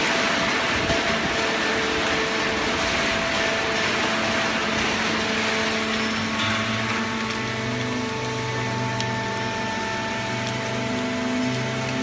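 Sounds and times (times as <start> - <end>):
baler machine running: 0.0 - 12.0.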